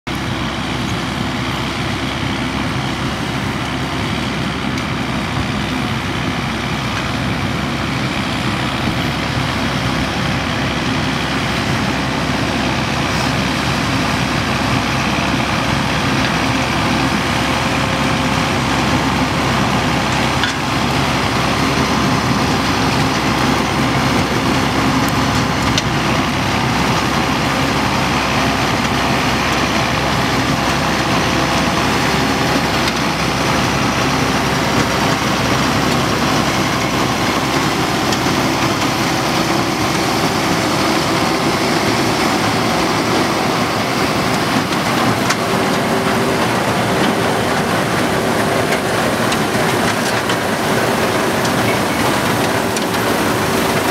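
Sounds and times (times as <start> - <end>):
harvester machinery running: 0.0 - 53.9
tractor engine under load: 0.0 - 53.9.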